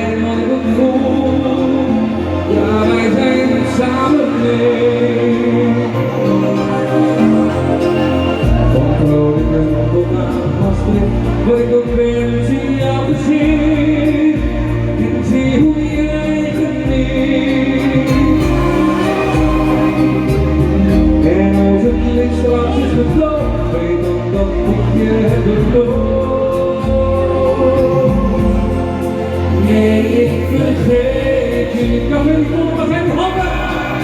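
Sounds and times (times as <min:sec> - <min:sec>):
bass line: 0:00.0 - 0:34.0
pop song singing: 0:00.0 - 0:34.0
steady beat: 0:06.0 - 0:34.0.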